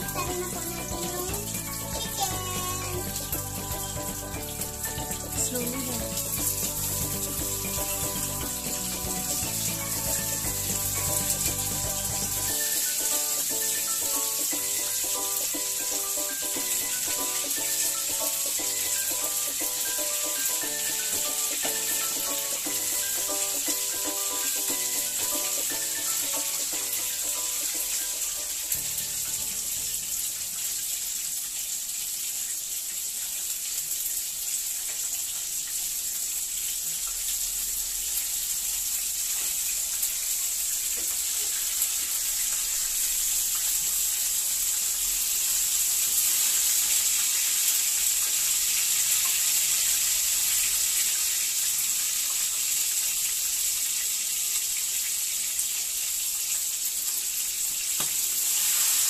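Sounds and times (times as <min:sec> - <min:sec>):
chicken frying in oil: 0:00.0 - 0:59.0.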